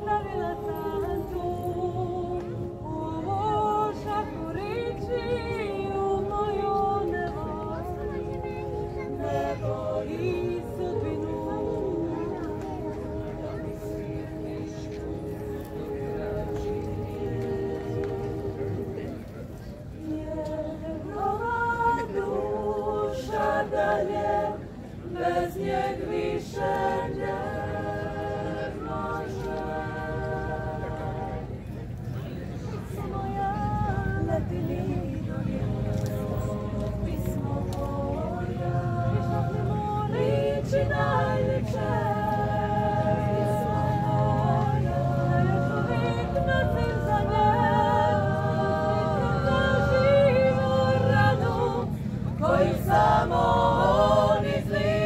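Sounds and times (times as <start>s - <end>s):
women singing a cappella: 0.0s - 55.0s.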